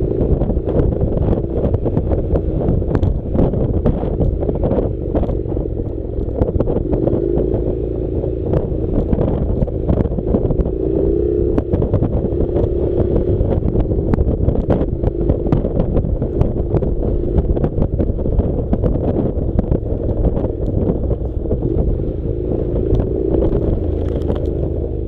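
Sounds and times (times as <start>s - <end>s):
motorcycle engine droning: 0.0s - 25.0s
wind rumble on microphone: 0.0s - 25.0s.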